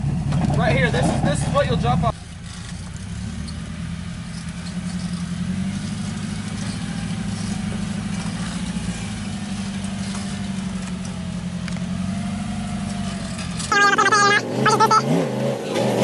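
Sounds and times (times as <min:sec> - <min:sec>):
truck engine at low revs: 0:00.0 - 0:16.0.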